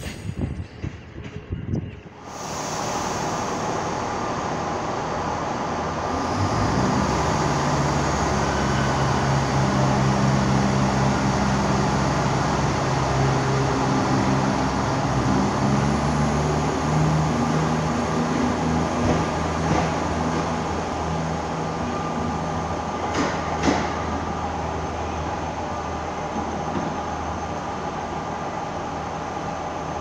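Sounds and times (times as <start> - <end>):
diesel train engines revving: 2.2 - 30.0.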